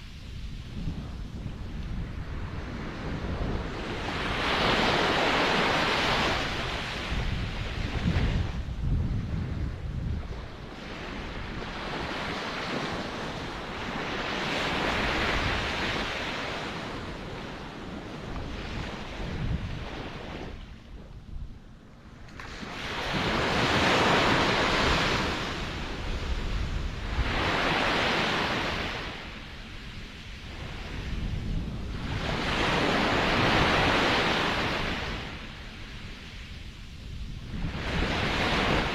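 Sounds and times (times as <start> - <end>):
ocean waves breaking on shore: 0.0 - 21.2, 22.0 - 38.9.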